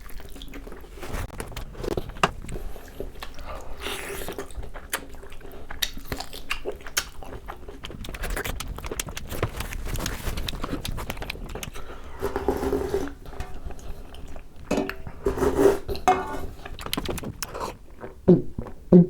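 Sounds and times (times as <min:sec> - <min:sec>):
wet chewing and lip-smacking: 0:00.0 - 0:12.3, 0:15.9 - 0:19.0.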